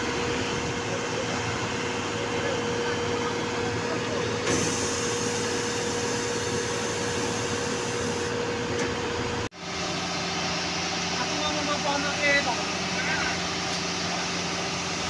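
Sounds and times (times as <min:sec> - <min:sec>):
concrete pump machine hum: 0:00.0 - 0:15.0
machine whine: 0:00.0 - 0:15.0.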